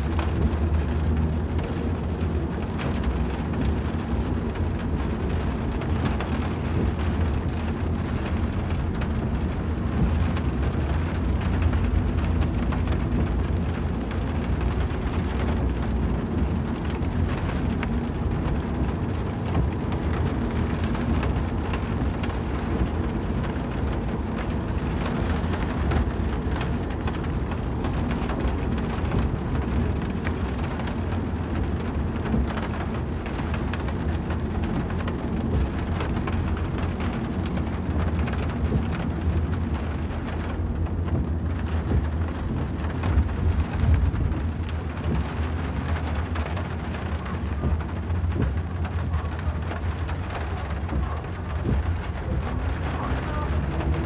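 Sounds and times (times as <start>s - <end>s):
low road rumble: 0.0s - 54.0s
rain pattering on car windshield: 0.0s - 54.0s.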